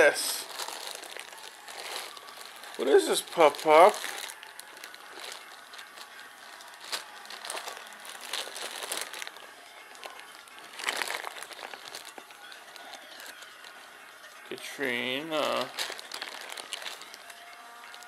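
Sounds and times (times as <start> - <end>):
plastic packaging crinkling: 0.0 - 14.0, 15.3 - 18.0.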